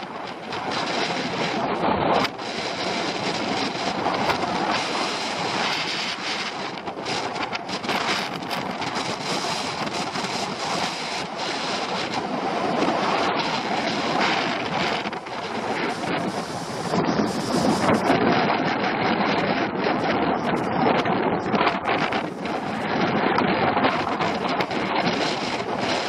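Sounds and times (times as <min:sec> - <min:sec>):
skis scraping over snow: 0:00.0 - 0:26.0
wind rushing over microphone: 0:00.0 - 0:26.0.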